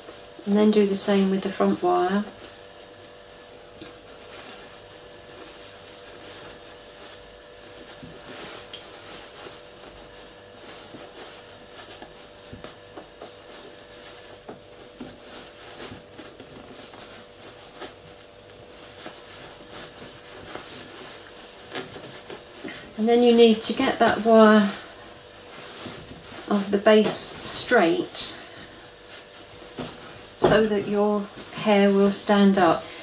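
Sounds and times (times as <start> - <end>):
faint electrical hum: 0.0 - 33.0
fabric rustling and rubbing: 2.2 - 32.8.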